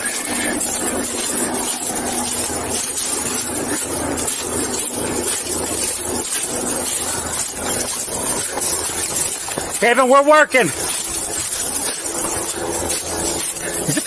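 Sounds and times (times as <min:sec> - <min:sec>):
footsteps crunching through dry leaves: 0:00.0 - 0:14.0.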